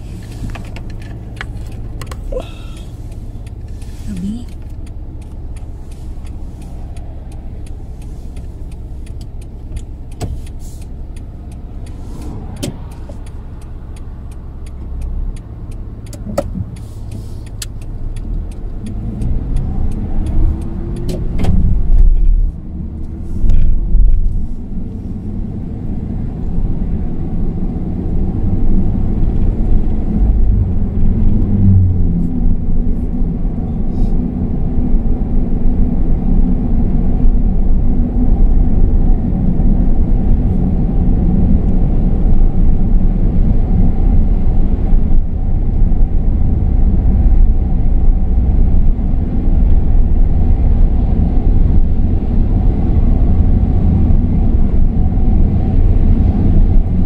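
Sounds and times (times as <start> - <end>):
car engine: 0.0 - 57.0
road rumble: 0.0 - 57.0.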